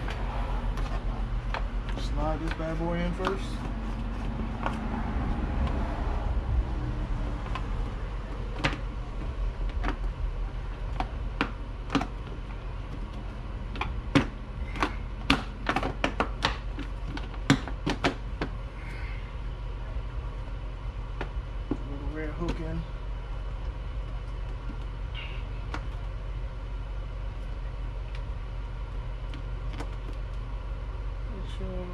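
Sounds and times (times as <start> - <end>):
steady low rumble: 0.0 - 31.9.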